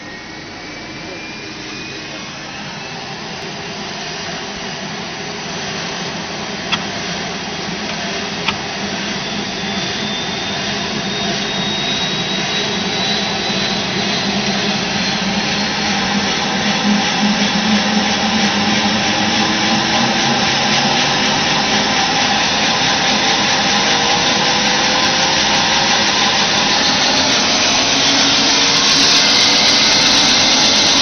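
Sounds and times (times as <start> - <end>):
turbine engine whine: 0.0 - 31.0.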